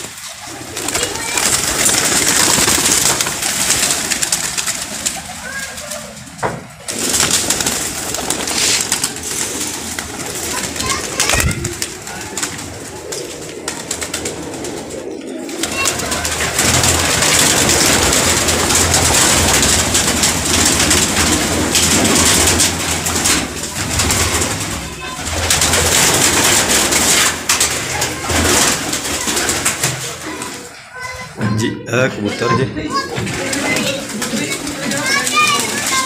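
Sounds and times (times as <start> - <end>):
flapping wings: 0.0 - 31.2, 32.9 - 36.0
pigeons cooing: 0.0 - 31.3, 32.3 - 36.0.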